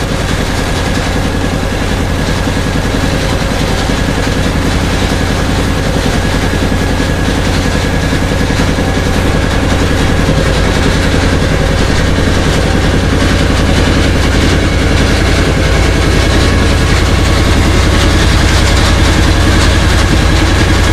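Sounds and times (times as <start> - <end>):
boat engine humming: 0.0 - 20.9
water rushing along hull: 0.0 - 20.9.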